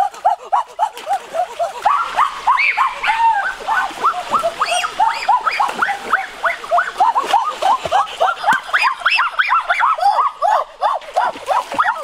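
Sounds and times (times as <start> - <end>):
yelping animal calls: 0.0 - 12.0.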